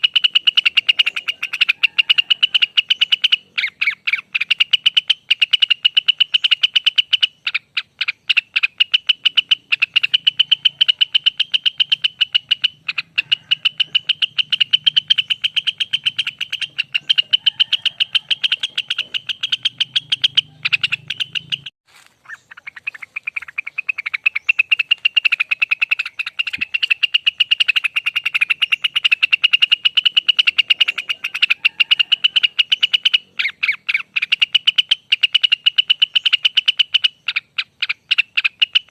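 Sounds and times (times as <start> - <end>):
bird singing fast trill: 0.0 - 38.9.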